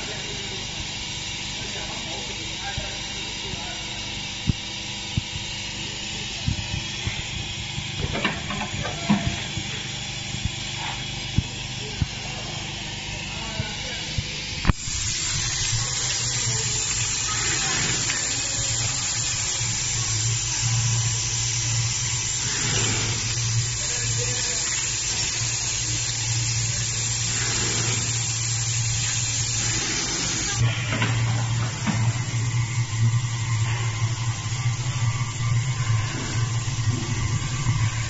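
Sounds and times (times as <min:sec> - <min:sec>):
packing machine humming: 0:00.0 - 0:38.0.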